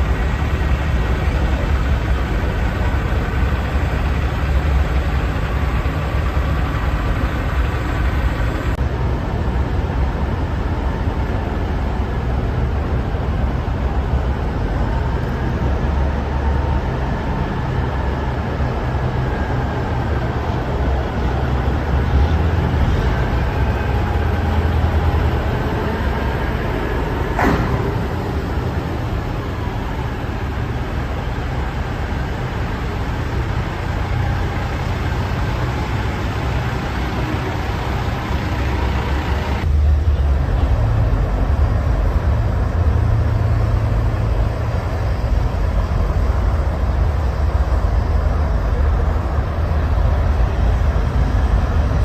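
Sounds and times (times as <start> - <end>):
heavy vehicle engine rumbling: 0.0 - 52.0.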